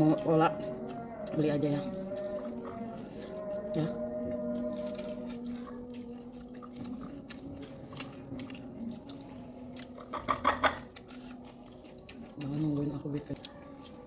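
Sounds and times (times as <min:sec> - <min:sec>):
chewing and wet mouth sounds: 0:00.0 - 0:14.0.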